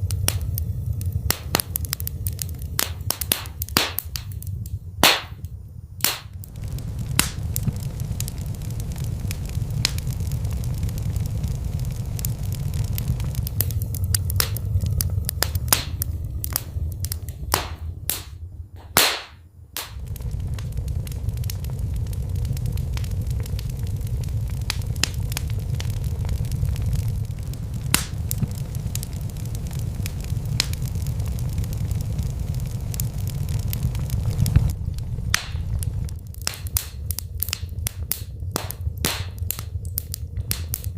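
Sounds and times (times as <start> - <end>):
low steady rumble: 0.0 - 40.9
wood fire crackling: 0.0 - 40.9.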